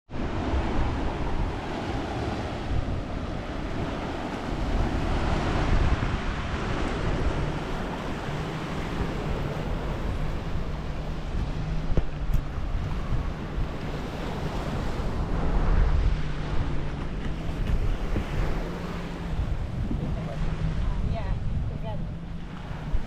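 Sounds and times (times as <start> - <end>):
sea surf washing onto beach: 0.1 - 23.0
wind buffeting microphone: 0.1 - 23.0.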